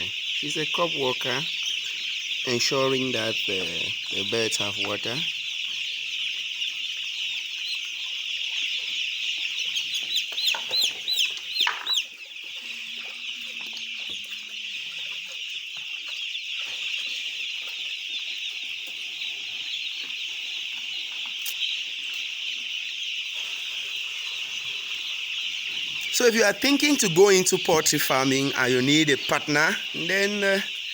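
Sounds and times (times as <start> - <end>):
chicks peeping chorus: 0.0 - 30.9
loud close chick peeps: 0.0 - 30.9.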